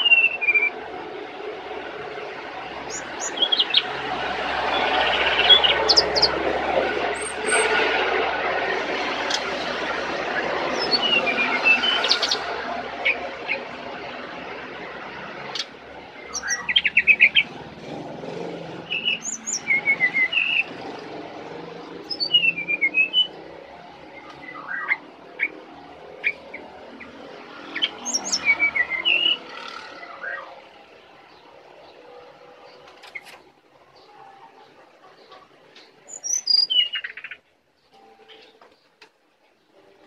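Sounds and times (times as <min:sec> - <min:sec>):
bird singing chirps and trills: 0:00.0 - 0:01.0, 0:01.6 - 0:07.8, 0:10.4 - 0:13.8, 0:14.8 - 0:39.0
rushing background noise: 0:00.0 - 0:40.0.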